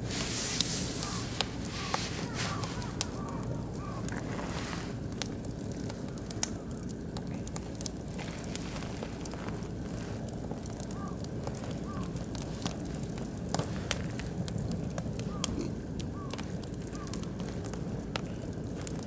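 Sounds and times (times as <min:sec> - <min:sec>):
flames rumbling: 0:00.0 - 0:19.0
wood fire crackling: 0:00.0 - 0:19.0.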